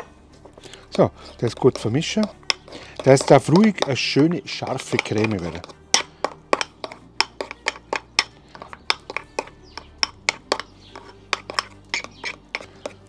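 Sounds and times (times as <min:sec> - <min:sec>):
metal spoon clinking against bowl: 0:01.2 - 0:13.0.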